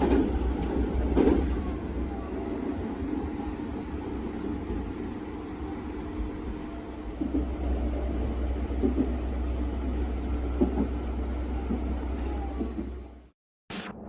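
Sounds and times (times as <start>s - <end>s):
train rumbling: 0.0s - 13.3s.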